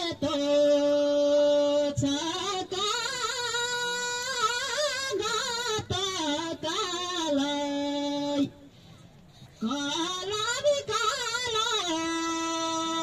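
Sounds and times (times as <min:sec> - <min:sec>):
person singing folk song: 0:00.0 - 0:08.6, 0:09.6 - 0:13.0.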